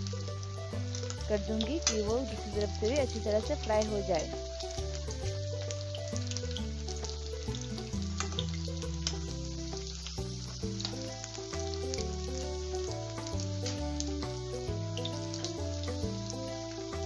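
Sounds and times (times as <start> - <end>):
background music with bass: 0.0 - 17.0
food sizzling in hot oil: 0.0 - 17.0.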